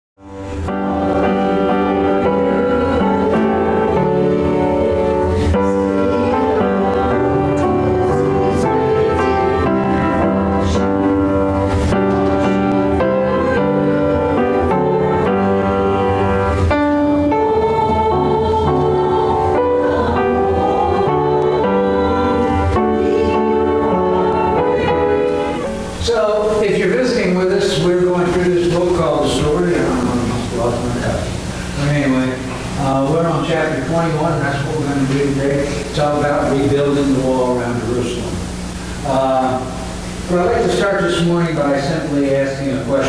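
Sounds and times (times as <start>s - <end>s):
instrumental piano music: 0.2s - 43.0s.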